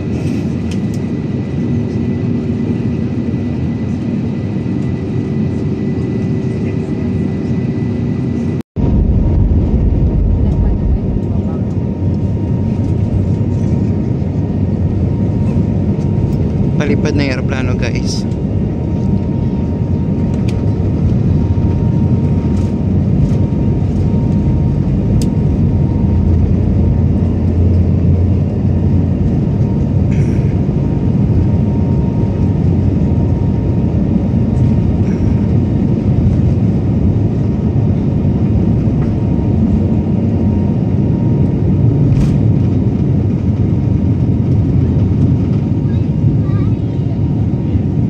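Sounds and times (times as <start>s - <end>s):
jet engine and wheel rumble: 0.0s - 48.0s.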